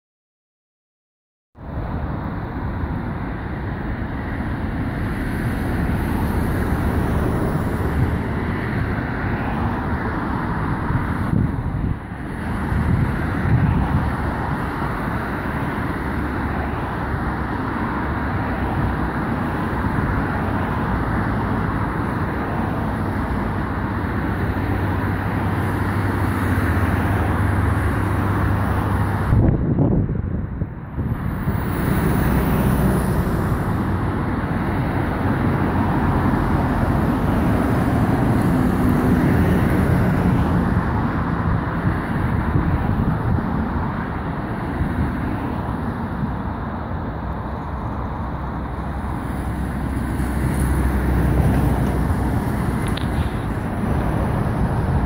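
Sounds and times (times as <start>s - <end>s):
distant airliner jet engines: 1.6s - 55.0s
road traffic: 1.6s - 55.0s
wind on microphone: 1.7s - 55.0s.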